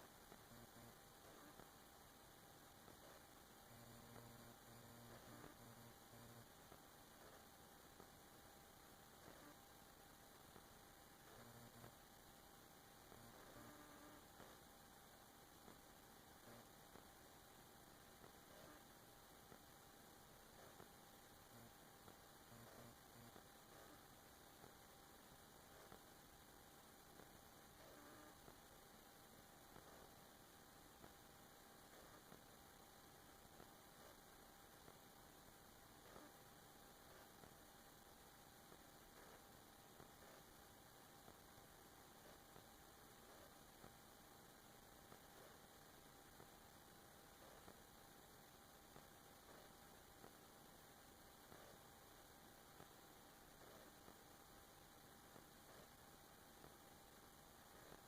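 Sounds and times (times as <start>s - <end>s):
faint steady hiss: 0.0s - 58.0s
thin electrical hum: 0.0s - 58.0s.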